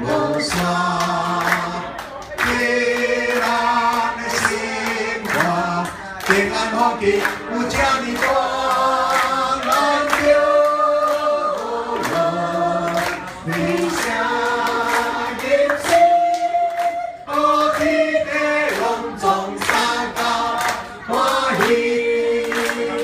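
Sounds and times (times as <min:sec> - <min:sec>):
group of people singing: 0:00.0 - 0:23.0
hands clapping: 0:00.2 - 0:23.0.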